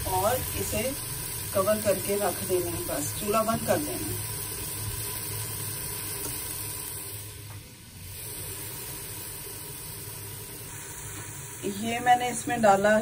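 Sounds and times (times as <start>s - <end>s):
food sizzling in a metal pot: 0.0s - 13.0s.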